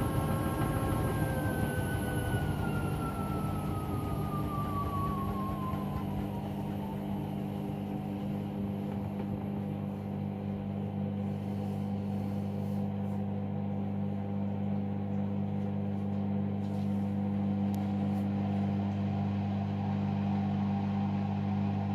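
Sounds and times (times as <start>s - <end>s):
washing machine humming: 0.0s - 21.9s.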